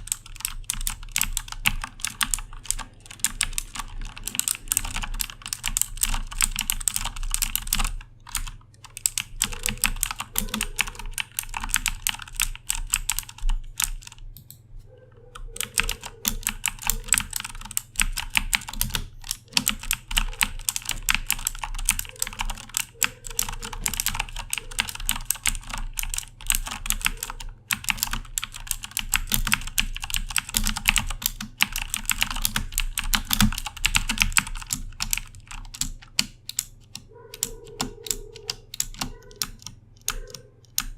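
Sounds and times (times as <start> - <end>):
mechanical keyboard typing: 0.0 - 14.6, 15.3 - 40.9.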